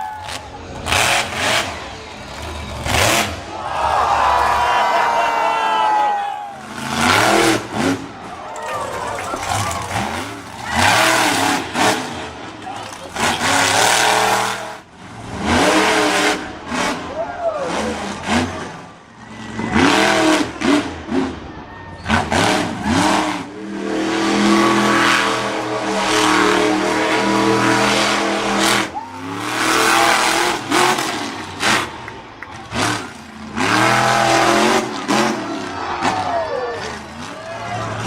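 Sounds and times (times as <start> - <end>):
truck engine revving hard: 0.3 - 3.6, 6.6 - 8.3, 9.4 - 38.0.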